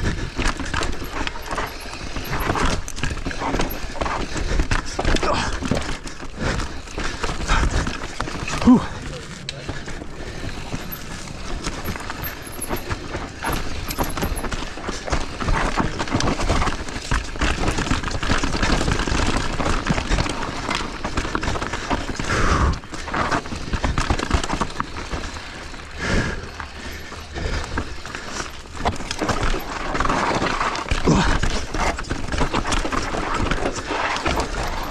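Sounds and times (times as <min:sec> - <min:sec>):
bike tyres clattering over rocks: 0:00.0 - 0:34.9.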